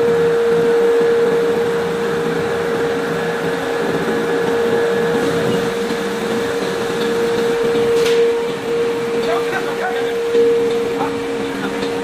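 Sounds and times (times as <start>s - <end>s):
rolling mill droning: 0.0s - 12.0s.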